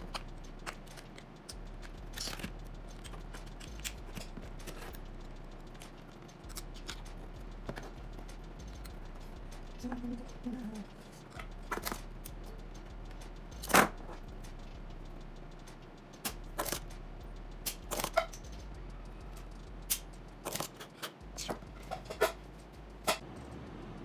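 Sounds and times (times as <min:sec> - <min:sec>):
low steady hum: 0:00.0 - 0:20.5.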